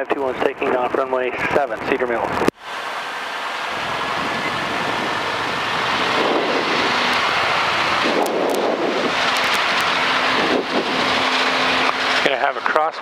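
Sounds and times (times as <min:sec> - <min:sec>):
rushing air: 0:02.2 - 0:13.0
small airplane engine at full power: 0:02.4 - 0:13.0.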